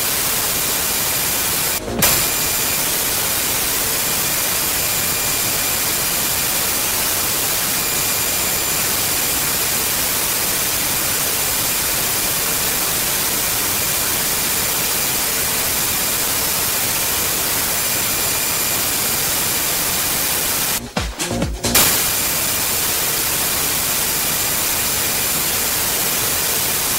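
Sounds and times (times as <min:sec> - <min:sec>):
static hiss: 0:00.0 - 0:26.9.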